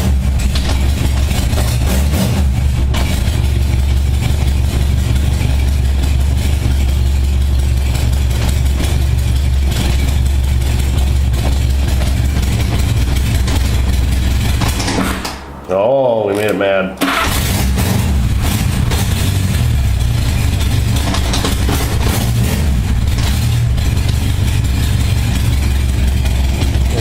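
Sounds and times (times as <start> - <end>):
motorcycle engine idling: 0.0 - 16.2, 17.1 - 27.0.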